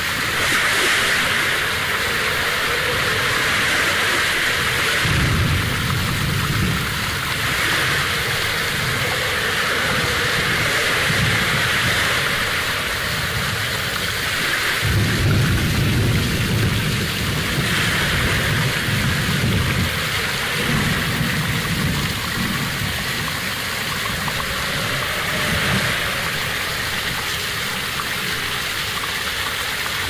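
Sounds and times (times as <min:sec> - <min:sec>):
stream flowing over rock: 0:00.0 - 0:30.0
low rumbles: 0:01.2 - 0:30.0.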